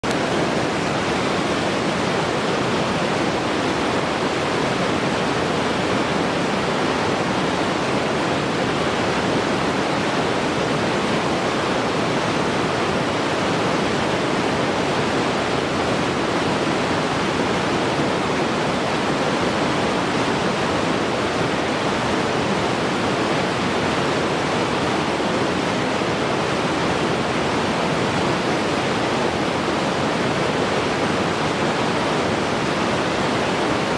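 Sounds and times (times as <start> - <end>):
river rushing over rocks: 0.0 - 33.9.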